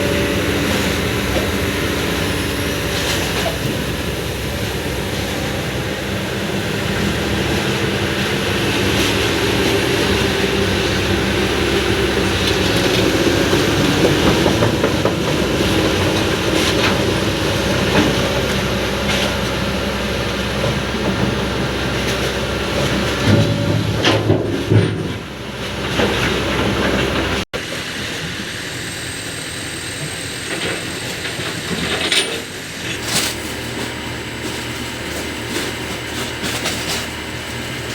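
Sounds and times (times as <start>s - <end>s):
excavator diesel engine: 0.0s - 37.9s
hydraulic whine: 0.0s - 37.9s.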